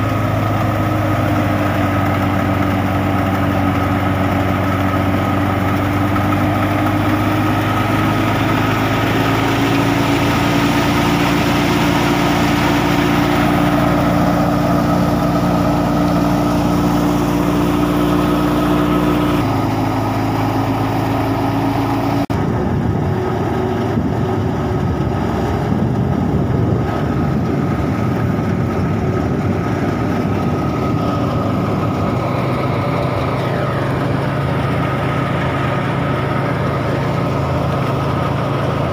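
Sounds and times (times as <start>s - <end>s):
diesel engine drone: 0.0s - 38.9s
thresher belts whirring: 0.0s - 38.9s.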